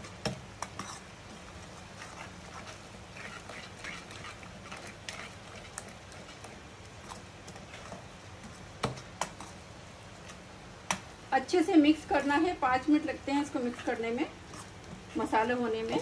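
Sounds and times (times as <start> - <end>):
metal spoon stirring in pan: 0.0 - 16.0.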